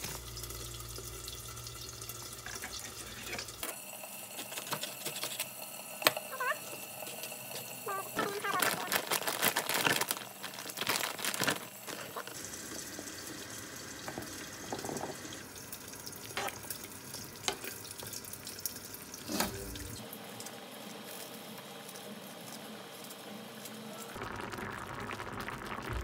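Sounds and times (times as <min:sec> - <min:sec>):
running kitchen water: 0:00.0 - 0:26.0.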